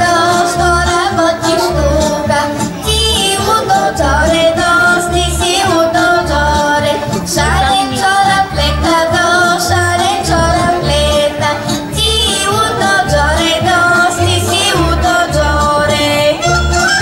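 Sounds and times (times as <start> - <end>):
folk dance music with singing: 0.0 - 17.0.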